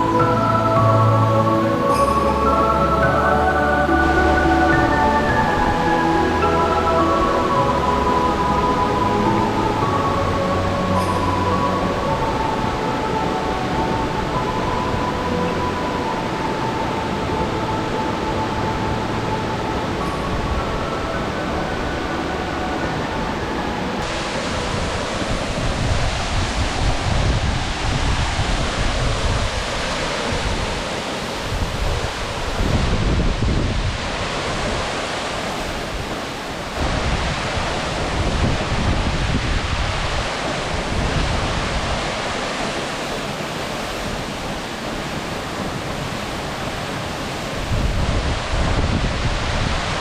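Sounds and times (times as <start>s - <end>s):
waterfall roaring: 0.0s - 50.0s
wind buffeting microphone: 4.7s - 50.0s.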